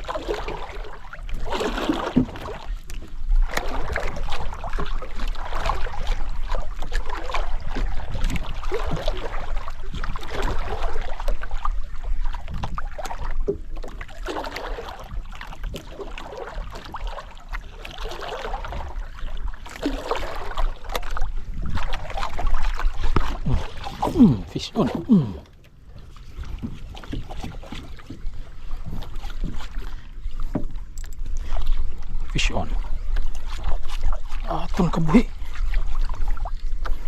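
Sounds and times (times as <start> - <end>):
water slapping boat hull: 0.0 - 37.0.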